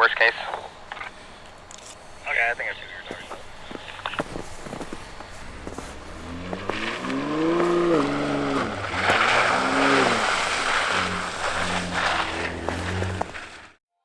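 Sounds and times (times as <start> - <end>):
tires churning snow: 0.0 - 13.8
pickup truck engine revving: 0.4 - 13.8.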